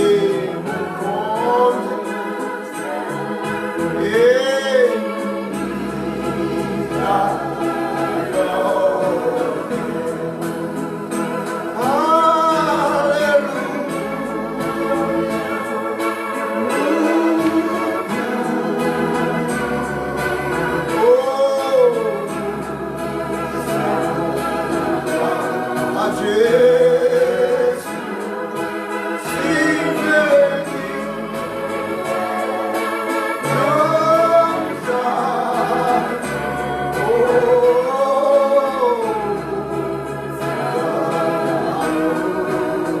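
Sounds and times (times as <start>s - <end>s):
electronic organ chords: 0.0s - 43.0s
voices singing a hymn: 0.0s - 43.0s.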